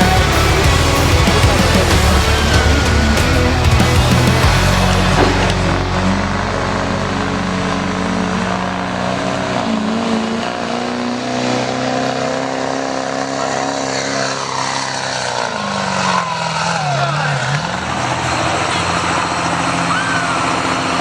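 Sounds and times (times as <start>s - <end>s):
vehicle engine running at high revs: 0.0s - 21.0s.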